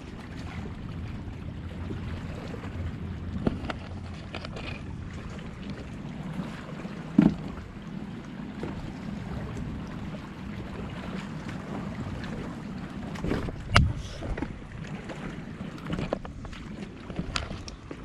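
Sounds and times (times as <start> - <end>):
wind buffeting microphone: 0.0 - 17.9
boat noise: 0.0 - 18.0
water: 0.0 - 18.0.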